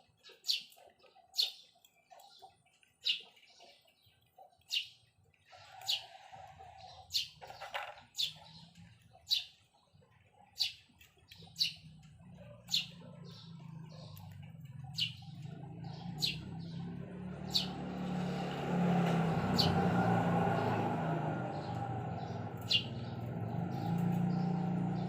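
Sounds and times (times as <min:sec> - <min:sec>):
small bird chirping: 0:00.0 - 0:06.2, 0:06.8 - 0:19.8, 0:21.4 - 0:25.0.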